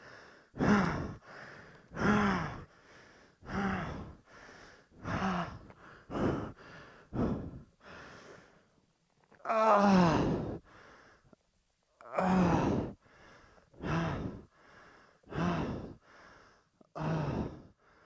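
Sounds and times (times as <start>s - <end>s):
person breathing heavily with groans: 0.0s - 11.4s, 12.0s - 18.0s.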